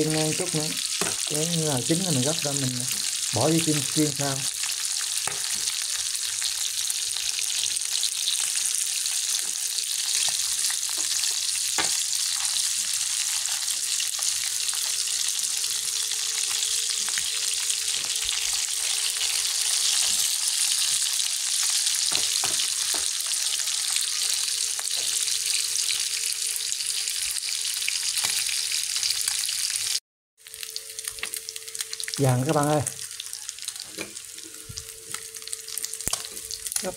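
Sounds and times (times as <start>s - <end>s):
fish sizzling in hot oil: 0.0s - 36.9s.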